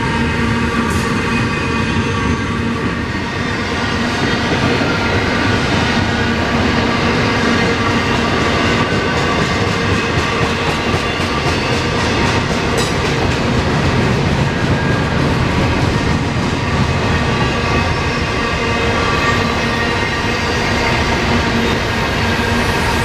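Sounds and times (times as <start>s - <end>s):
train wheels rumbling and clattering: 0.0s - 23.0s.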